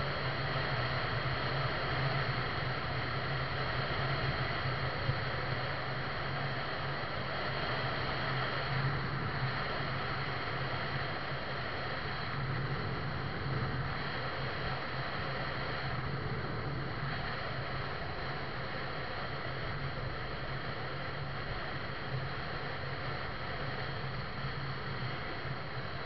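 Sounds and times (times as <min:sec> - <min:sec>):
wind and tyre noise: 0:00.0 - 0:26.0.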